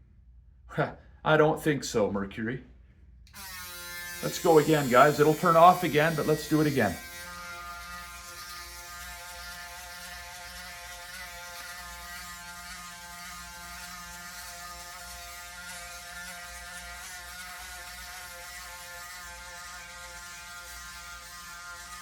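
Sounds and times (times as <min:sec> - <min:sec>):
electric shaver buzzing: 0:03.3 - 0:22.0.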